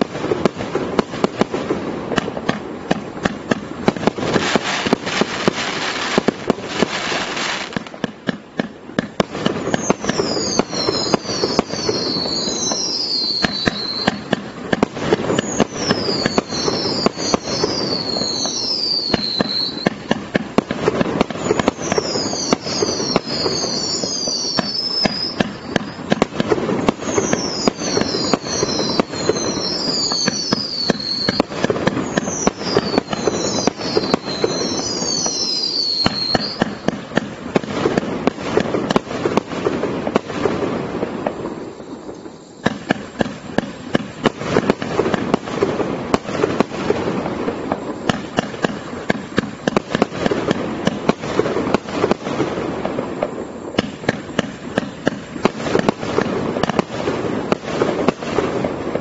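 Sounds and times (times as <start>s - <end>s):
fireworks thumps pops and crackling: 0.0s - 59.0s
fireworks whistles falling in pitch: 0.0s - 59.0s.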